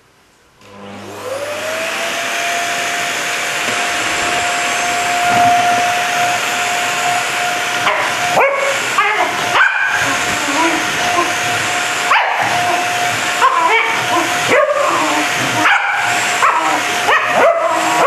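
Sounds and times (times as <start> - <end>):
vacuum cleaner motor whine: 0.6 - 18.0.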